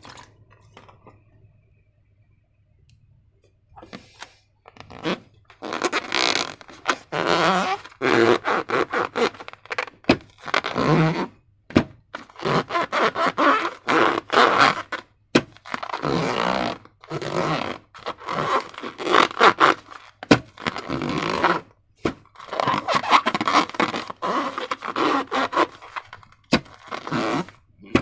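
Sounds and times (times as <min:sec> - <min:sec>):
rubbery balloon squeaks: 0:04.7 - 0:11.4, 0:12.1 - 0:28.0.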